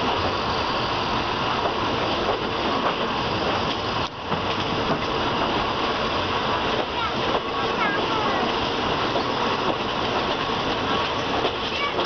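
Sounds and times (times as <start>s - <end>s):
train running noise: 0.0s - 12.0s.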